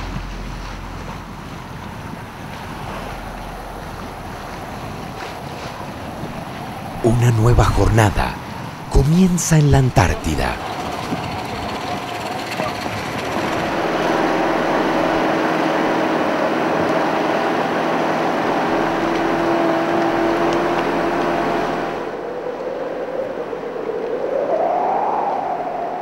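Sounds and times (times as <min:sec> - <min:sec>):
outboard motor humming: 0:00.0 - 0:22.3
rushing water: 0:00.0 - 0:26.0.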